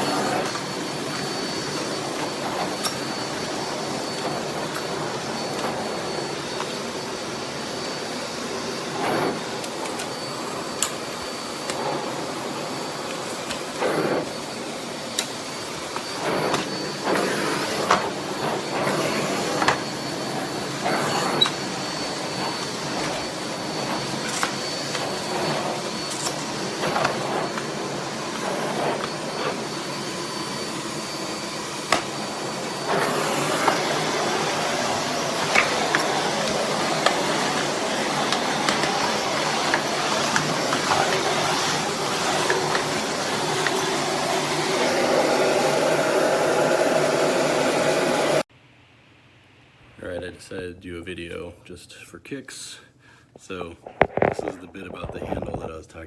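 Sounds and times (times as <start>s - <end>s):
vacuum cleaner motor whine: 0.0s - 48.5s.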